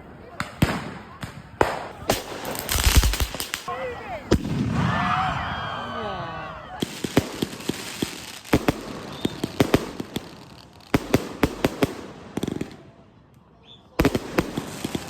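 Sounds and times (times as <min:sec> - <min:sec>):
fireworks bangs: 0:00.2 - 0:13.0, 0:14.0 - 0:15.0.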